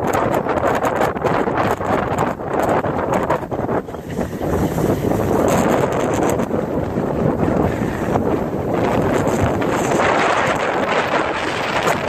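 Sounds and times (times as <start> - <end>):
wind gusting across microphone: 0.0 - 12.0.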